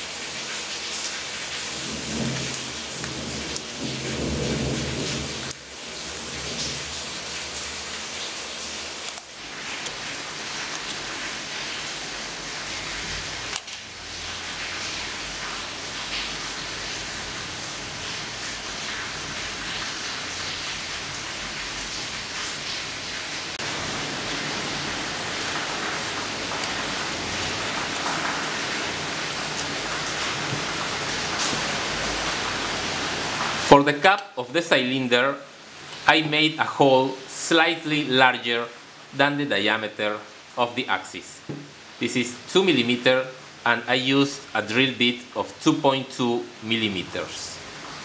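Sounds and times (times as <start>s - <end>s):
steady hiss: 0.0s - 48.0s.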